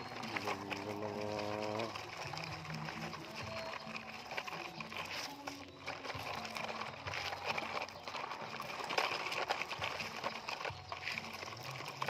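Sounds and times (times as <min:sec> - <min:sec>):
toy truck wheels clattering on gravel: 0:00.0 - 0:12.0.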